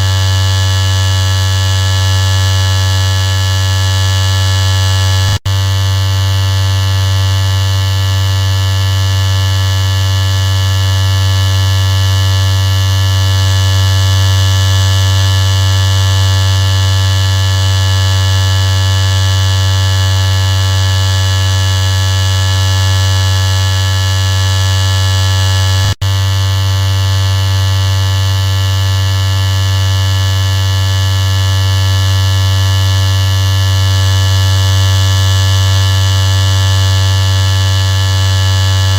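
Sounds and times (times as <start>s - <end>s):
electric shaver buzzing: 0.0s - 38.9s.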